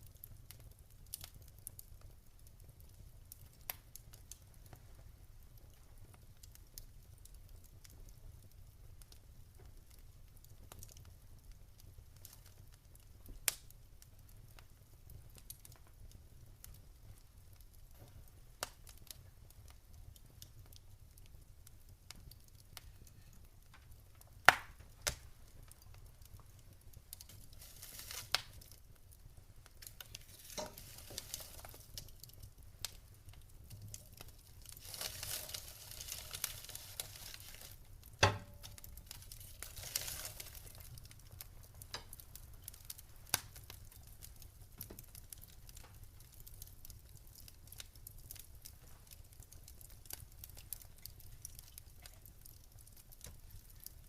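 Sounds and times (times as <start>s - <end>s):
fire hissing softly: 0.0s - 54.0s
wood fire crackling and popping: 0.0s - 54.0s.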